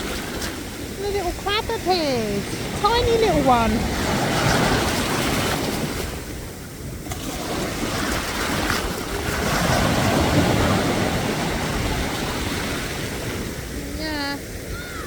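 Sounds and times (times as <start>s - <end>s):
sea waves washing: 0.0s - 15.0s
wind rumbling on microphone: 0.0s - 15.0s.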